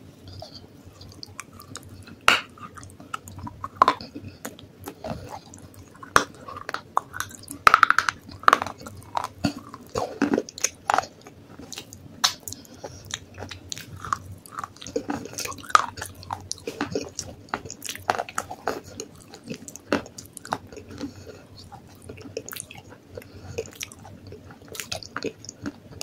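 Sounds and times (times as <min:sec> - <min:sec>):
crunchy chewing: 0:00.3 - 0:26.0.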